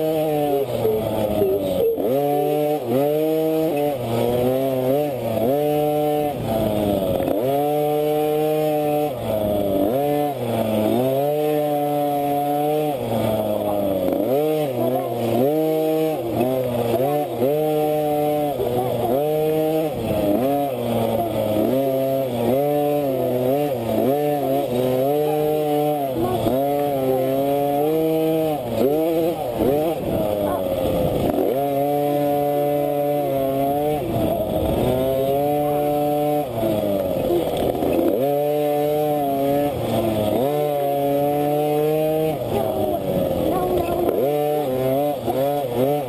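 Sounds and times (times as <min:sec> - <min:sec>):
two-stroke minibike engine revving: 0:00.0 - 0:46.0.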